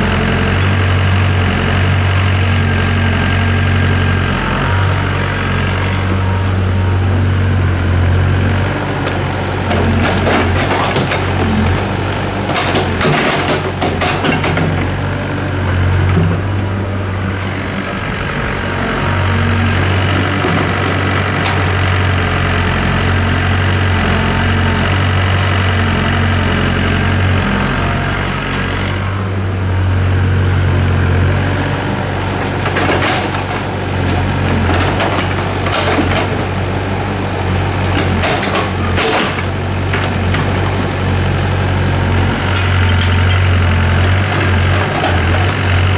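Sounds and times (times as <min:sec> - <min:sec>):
excavator diesel engine under load: 0:00.0 - 0:45.9.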